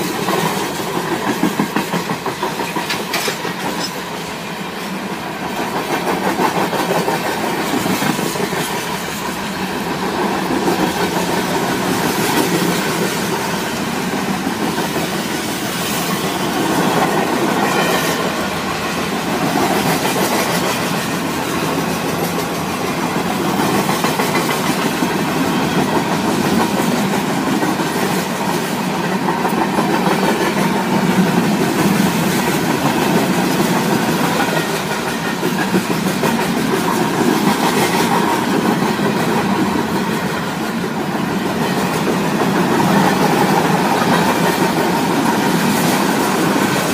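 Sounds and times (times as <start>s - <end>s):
train wheels clattering over rails: 0.0s - 46.9s.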